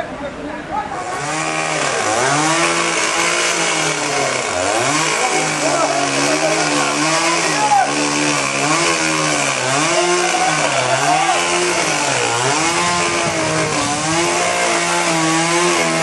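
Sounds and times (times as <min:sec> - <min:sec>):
chainsaw engine running: 0:01.0 - 0:16.0.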